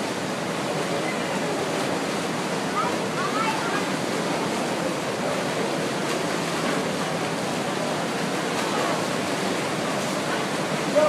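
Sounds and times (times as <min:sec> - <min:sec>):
swimmers splashing: 0:00.7 - 0:11.0.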